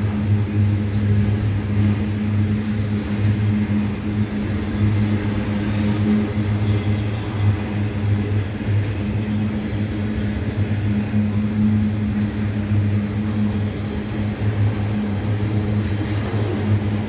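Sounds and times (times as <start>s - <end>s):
freight train wagons rumbling: 0.0s - 17.0s
pulsing low drone: 0.0s - 17.0s.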